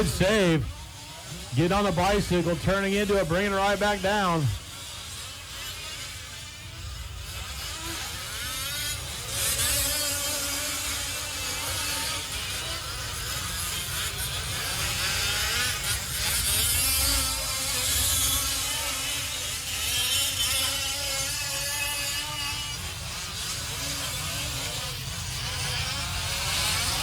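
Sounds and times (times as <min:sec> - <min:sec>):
small two-stroke engines buzzing: 0:00.0 - 0:27.0.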